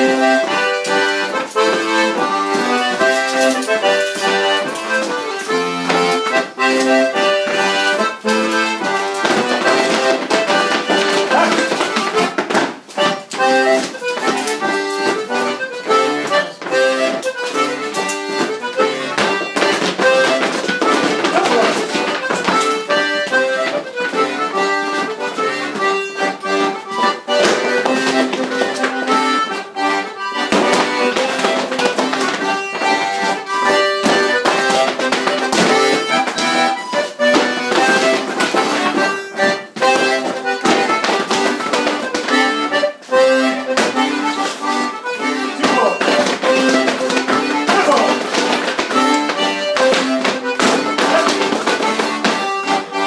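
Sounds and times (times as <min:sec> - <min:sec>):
accordion dance tune: 0:00.0 - 0:53.0
dancers' taps and clicks: 0:00.0 - 0:53.0.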